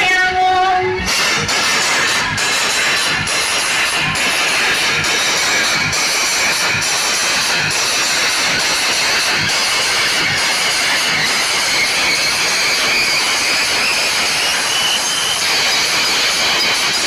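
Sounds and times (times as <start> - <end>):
distorted dance music: 0.0 - 17.0.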